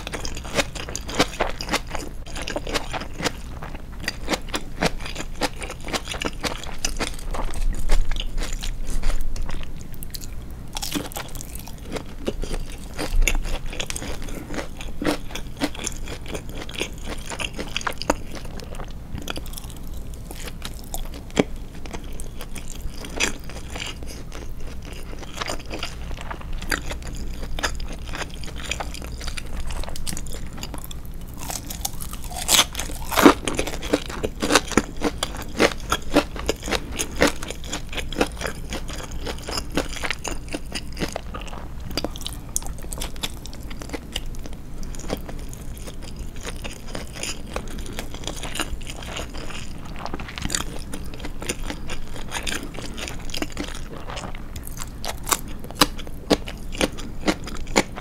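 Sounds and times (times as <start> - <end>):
chewing crunchy fried food: 0.0 - 58.0.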